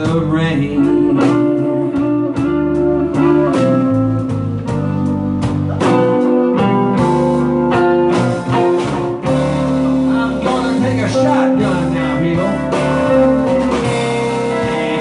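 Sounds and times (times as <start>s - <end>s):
blues band playing instrumental: 0.0s - 15.0s.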